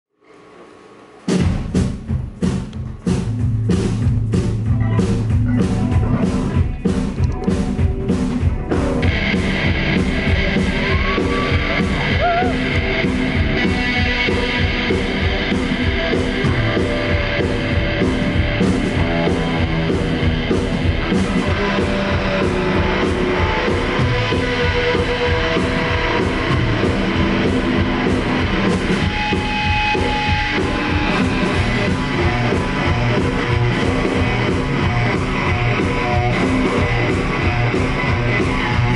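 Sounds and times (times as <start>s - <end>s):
drum kit beat: 1.2s - 38.9s
bass guitar: 1.3s - 38.9s
electric guitar: 4.3s - 38.9s.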